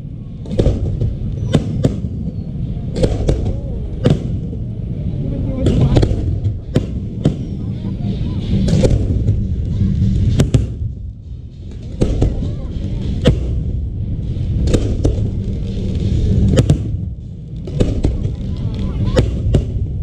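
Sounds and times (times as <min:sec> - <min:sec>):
low rumble and crackle: 0:00.0 - 0:20.0
fireworks bangs: 0:00.4 - 0:04.9, 0:05.5 - 0:07.8, 0:08.5 - 0:11.1, 0:11.7 - 0:20.0.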